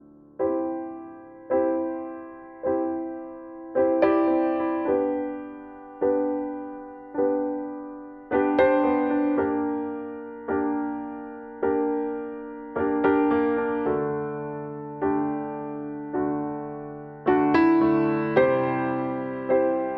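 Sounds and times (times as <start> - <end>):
slow soft piano chords: 0.0 - 19.9.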